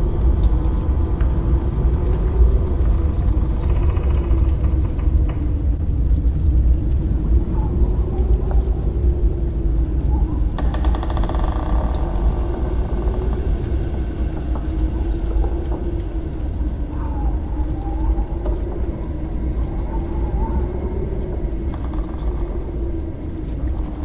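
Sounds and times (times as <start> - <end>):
deep steady rumble: 0.0 - 24.0
wavering drone: 0.0 - 24.0.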